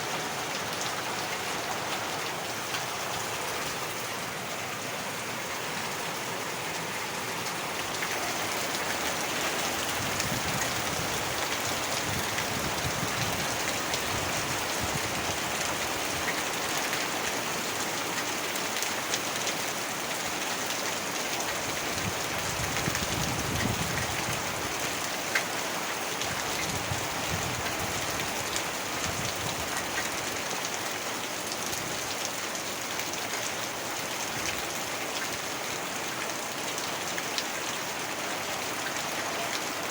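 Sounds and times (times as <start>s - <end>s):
heavy rain falling: 0.0s - 39.9s
large raindrops hitting: 0.0s - 39.9s.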